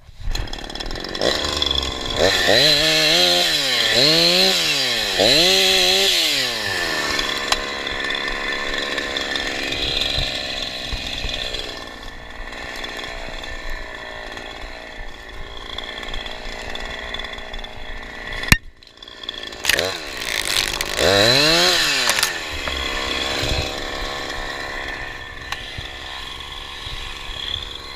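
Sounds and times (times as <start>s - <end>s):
chainsaw revving and idling: 0.3s - 27.9s.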